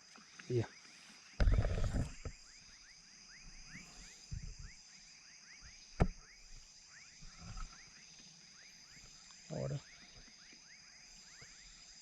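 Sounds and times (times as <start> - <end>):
crickets trilling: 0.0 - 12.0
frogs chirping: 0.0 - 12.0.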